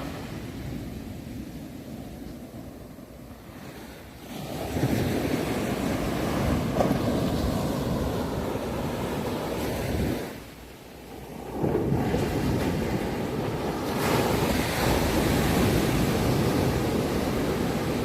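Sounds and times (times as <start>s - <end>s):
sea waves washing: 0.0s - 18.0s.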